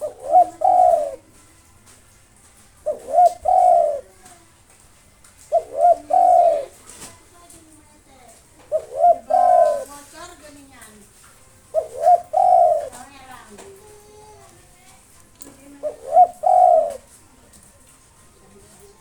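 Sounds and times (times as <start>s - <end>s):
dove cooing: 0.0s - 4.5s, 5.4s - 7.7s, 8.4s - 14.6s, 15.4s - 19.0s.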